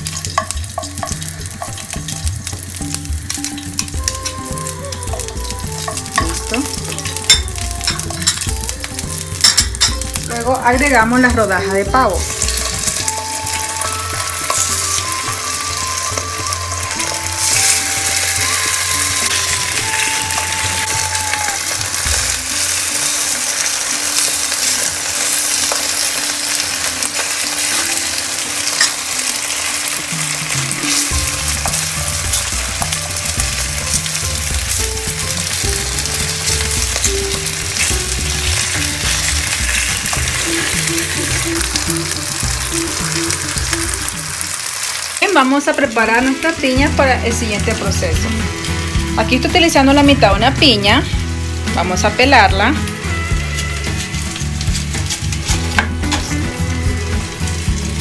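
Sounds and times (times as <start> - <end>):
meat sizzling in a frying pan: 0.0 - 58.0.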